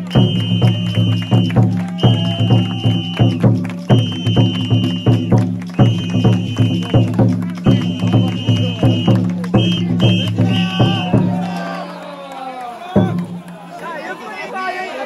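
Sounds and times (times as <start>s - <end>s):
taiko drum beats: 0.0s - 11.9s, 13.0s - 13.6s.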